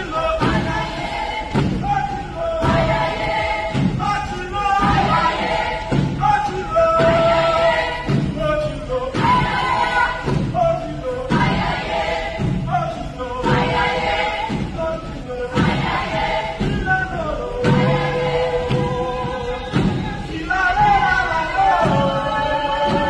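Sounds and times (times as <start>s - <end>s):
group of voices singing: 0.0s - 23.0s
heavy thud: 0.0s - 23.0s.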